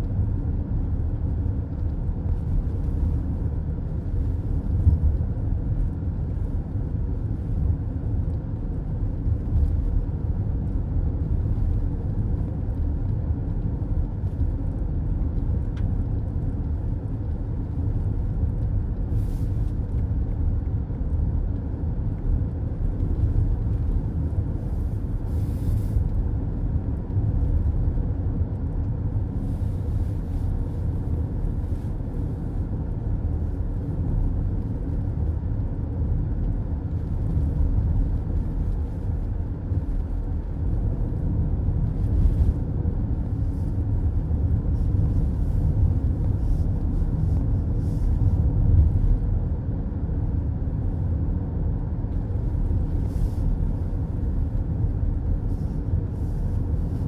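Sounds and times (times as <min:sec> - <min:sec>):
car road noise from inside: 0:00.1 - 0:57.0.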